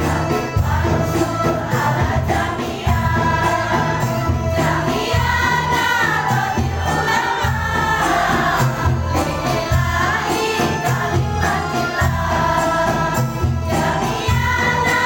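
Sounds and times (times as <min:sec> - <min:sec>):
choir singing devotional song: 0:00.0 - 0:15.0
instrumental accompaniment with bass: 0:00.0 - 0:15.0.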